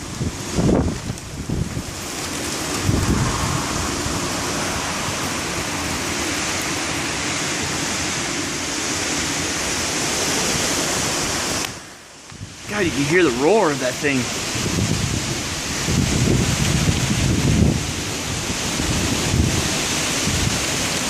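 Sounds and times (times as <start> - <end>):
wind driving heavy rain: 0.0 - 21.0
wind gusts buffeting microphone: 0.0 - 21.0.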